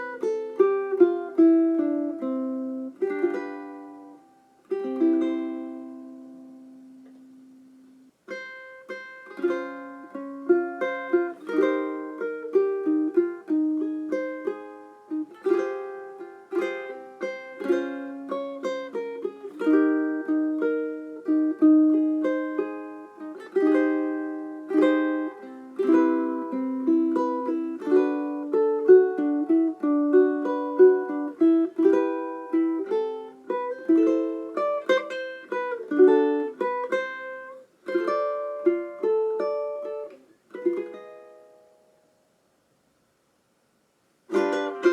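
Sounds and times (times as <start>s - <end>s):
ukulele melody plucked: 0.0s - 42.2s, 44.3s - 44.9s.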